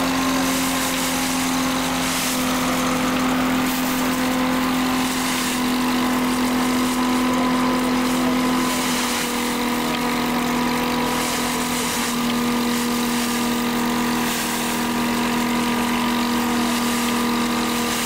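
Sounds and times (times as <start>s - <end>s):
threshing machine running: 0.0s - 18.0s.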